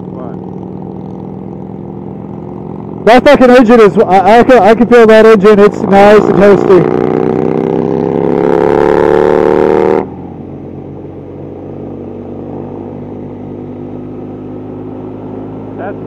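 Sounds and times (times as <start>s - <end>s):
motorcycle engine at speed: 0.0s - 16.0s.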